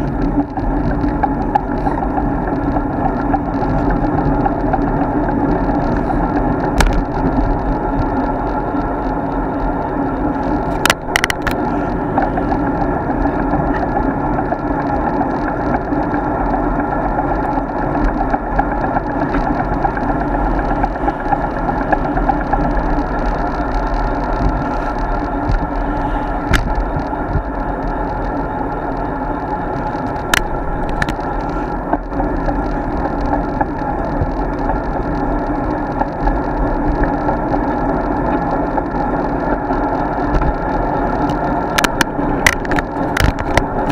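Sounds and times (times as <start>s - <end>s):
wind and road noise: 0.0s - 43.9s.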